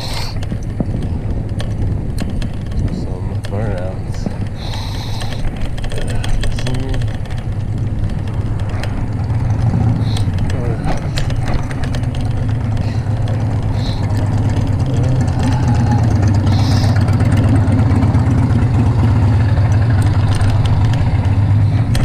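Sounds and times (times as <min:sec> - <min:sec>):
road traffic rumble: 0:00.0 - 0:22.0
wind noise: 0:00.0 - 0:22.0.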